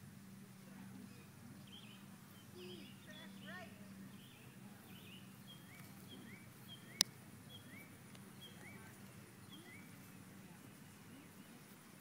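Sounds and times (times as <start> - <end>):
faint outdoor background noise: 0.0 - 12.0
bird chirping: 1.0 - 11.8.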